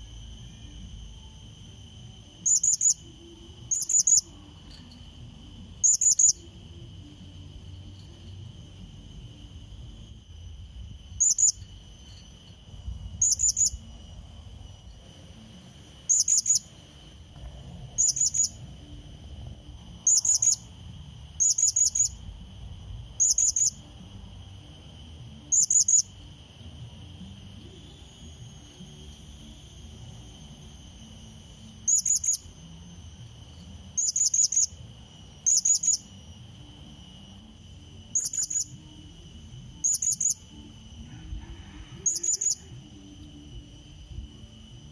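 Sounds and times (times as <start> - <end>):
insect drone: 0.0 - 44.9.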